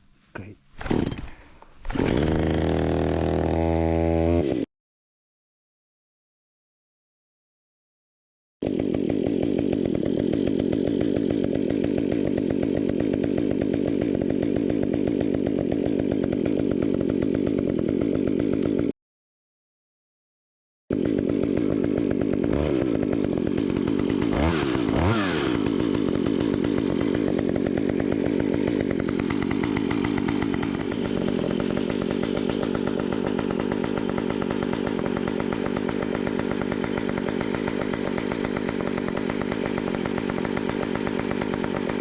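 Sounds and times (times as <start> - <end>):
chainsaw engine revving: 0.8 - 4.7, 8.6 - 19.0, 20.9 - 42.0.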